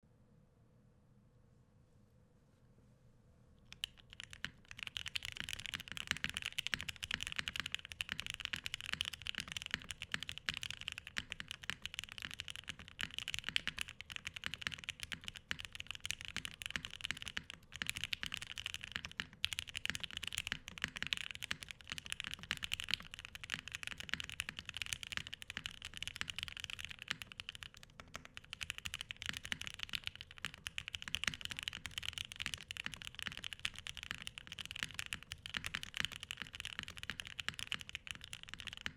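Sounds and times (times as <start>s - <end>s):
fast typing on mechanical keyboard: 3.7s - 38.9s.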